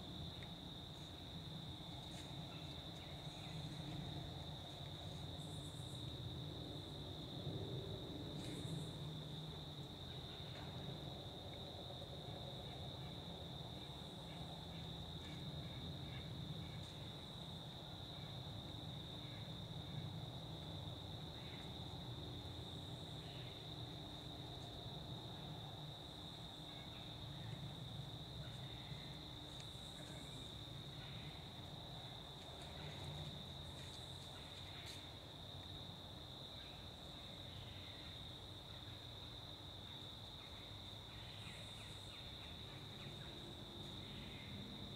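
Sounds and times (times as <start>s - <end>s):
crickets trilling: 0.0s - 44.9s.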